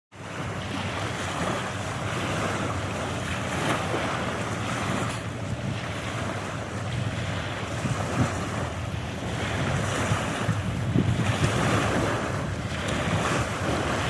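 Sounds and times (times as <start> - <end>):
ocean waves washing in: 0.1 - 14.0
wind buffeting microphone: 0.2 - 14.0.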